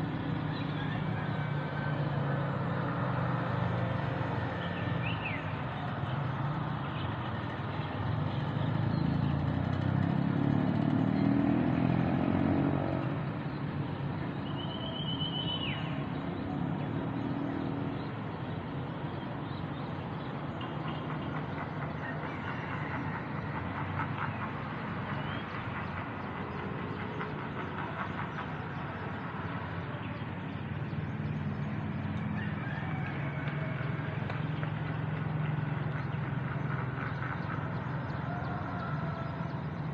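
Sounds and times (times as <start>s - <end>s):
distant road traffic hum: 0.0s - 39.9s
vehicle passing: 0.0s - 39.9s.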